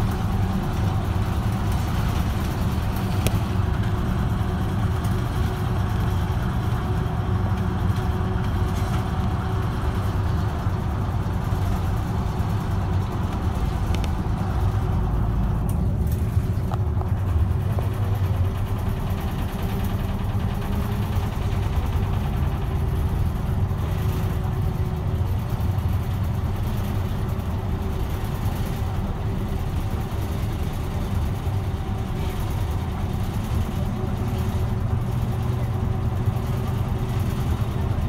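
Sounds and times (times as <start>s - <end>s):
bus engine and road noise: 0.0s - 38.0s.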